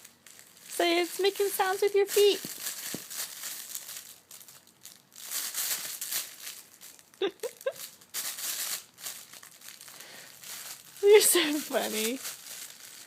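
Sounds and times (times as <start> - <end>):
crinkly material rustling: 0.0 - 13.0.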